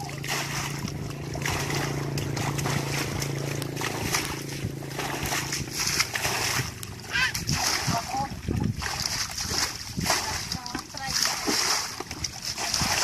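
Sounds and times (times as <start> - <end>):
low motor hum: 0.0 - 13.0
muddy water sloshing and splashing: 0.0 - 13.0.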